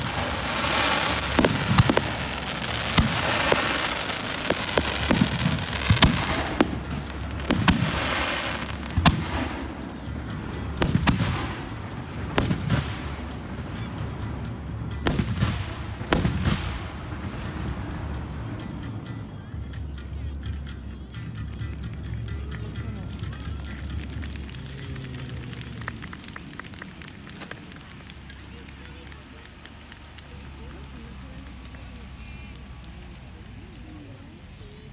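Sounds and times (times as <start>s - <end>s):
fireworks crackle: 0.0s - 18.7s, 21.6s - 34.9s
fireworks bursting: 0.0s - 18.9s, 23.4s - 33.8s.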